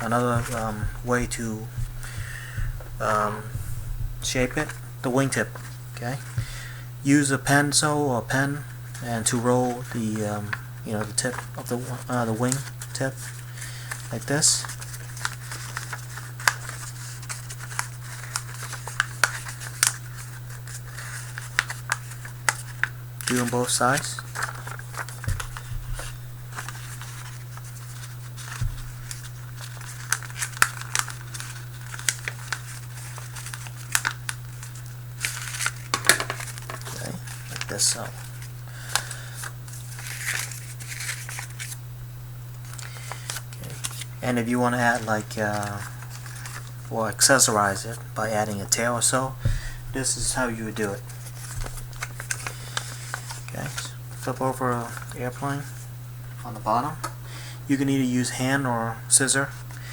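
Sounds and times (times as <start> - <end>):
paper crinkling: 0.0 - 4.8, 8.6 - 41.8, 42.6 - 56.6
steady low hum: 0.0 - 59.9.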